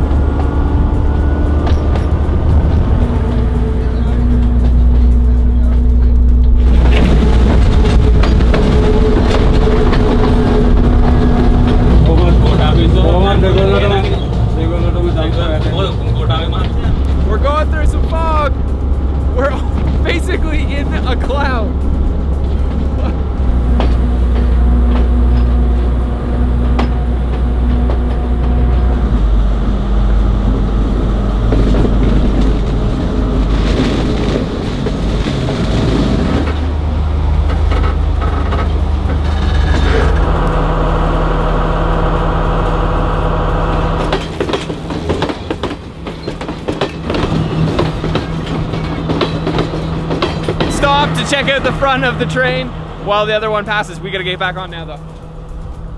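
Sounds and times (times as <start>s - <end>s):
train wheels clacking over rail joints: 0.0s - 29.4s, 30.1s - 40.6s, 43.6s - 55.8s
diesel train engine drone: 0.0s - 55.9s.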